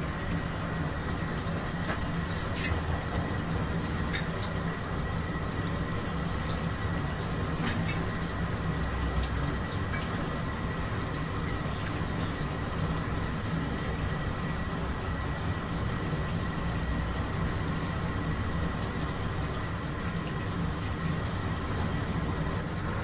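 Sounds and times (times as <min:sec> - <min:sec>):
batter deep-frying in oil: 0:00.0 - 0:23.0.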